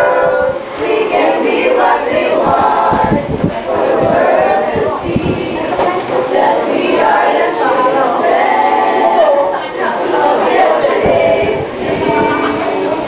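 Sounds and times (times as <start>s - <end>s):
group singing unaccompanied: 0.0s - 13.0s.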